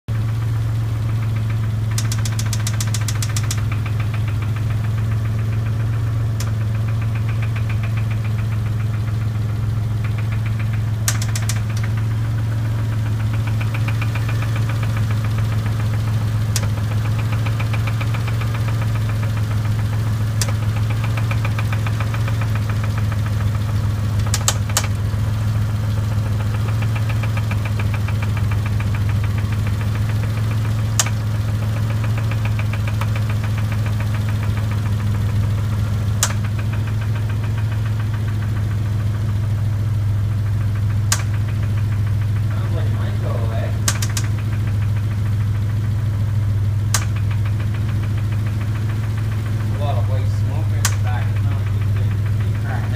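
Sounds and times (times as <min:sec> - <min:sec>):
car engine running: 0:00.0 - 0:52.9
engine ticking and knocking: 0:00.0 - 0:52.9.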